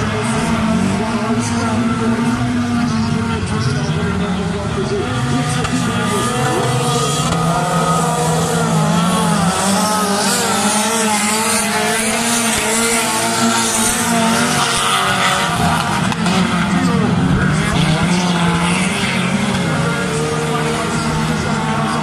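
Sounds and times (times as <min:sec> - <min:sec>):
stock car engines running hard: 0:00.0 - 0:22.0.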